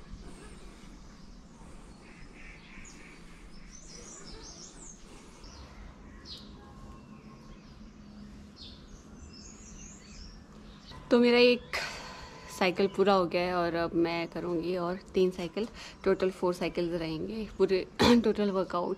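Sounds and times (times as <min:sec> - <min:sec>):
birds chirping: 0:00.0 - 0:18.9
faint low steady hum: 0:00.0 - 0:18.9.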